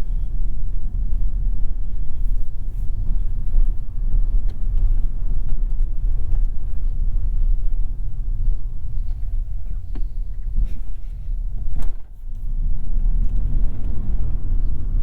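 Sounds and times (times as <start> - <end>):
car driving road noise: 0.0 - 15.0.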